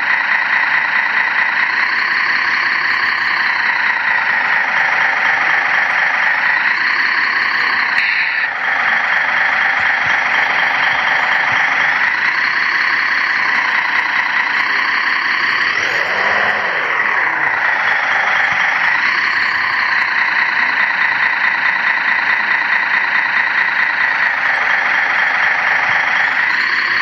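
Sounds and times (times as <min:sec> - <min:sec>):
model trucks droning: 0:00.0 - 0:27.0.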